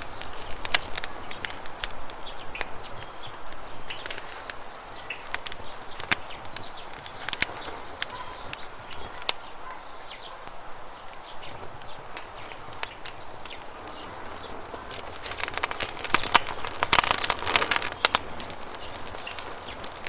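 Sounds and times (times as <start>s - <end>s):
bird chirps: 0.0s - 20.0s
campfire crackling and popping: 0.0s - 20.0s.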